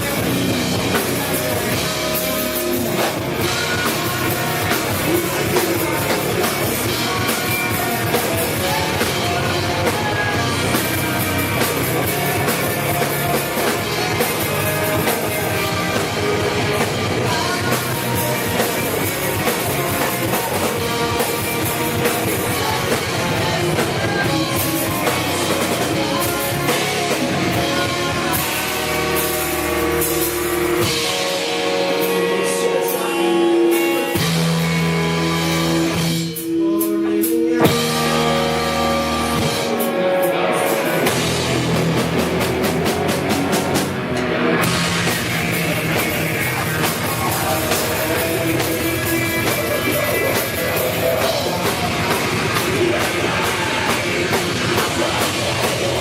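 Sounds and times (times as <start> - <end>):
drum kit: 0.0 - 56.0
rock band playing: 0.0 - 56.0.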